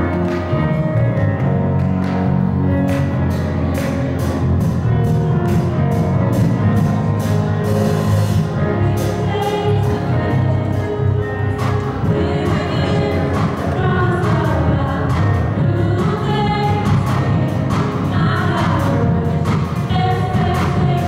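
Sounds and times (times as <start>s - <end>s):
drum kit steady beat: 0.0s - 21.0s
sustained instrumental chords: 0.0s - 21.0s.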